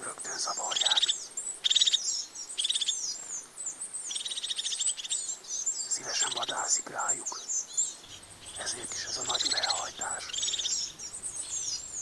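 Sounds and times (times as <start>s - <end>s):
bird trills: 0.0s - 12.0s
songbirds chirping: 0.0s - 12.0s.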